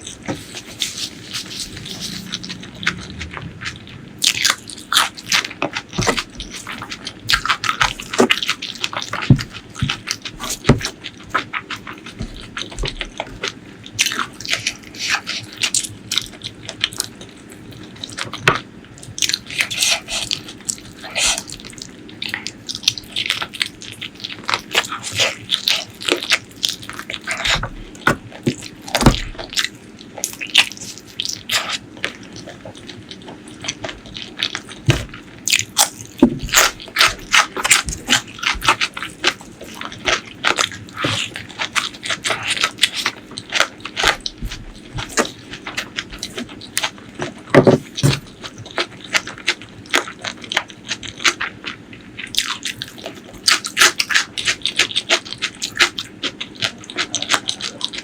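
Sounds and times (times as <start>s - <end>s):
wet chewing and crunching: 0.0s - 58.0s.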